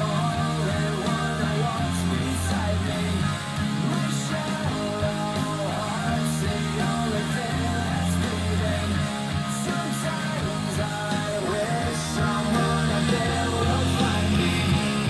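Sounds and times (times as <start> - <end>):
rock music over speakers: 0.0 - 15.0.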